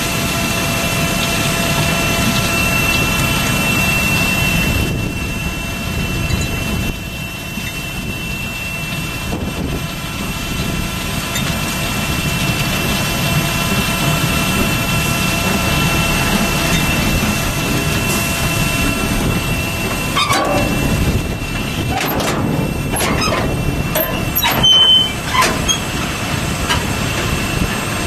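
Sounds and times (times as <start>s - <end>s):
heavy equipment engines running: 0.0s - 28.0s
high-pitched whine: 0.0s - 28.0s.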